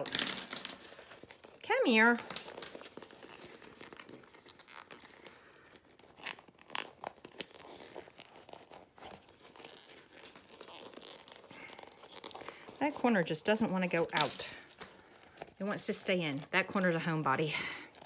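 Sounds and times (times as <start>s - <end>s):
vinyl bag crinkling: 1.2s - 18.0s.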